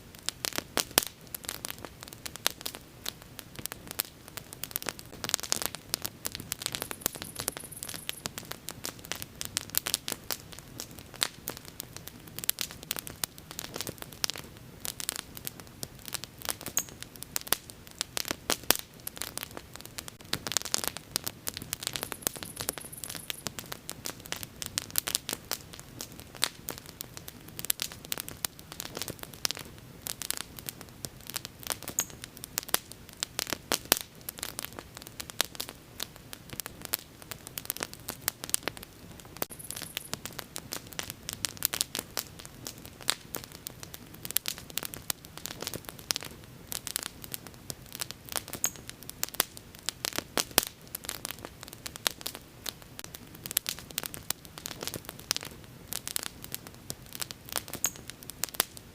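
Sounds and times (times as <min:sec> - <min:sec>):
fire popping and crackling: 0:00.0 - 0:58.9.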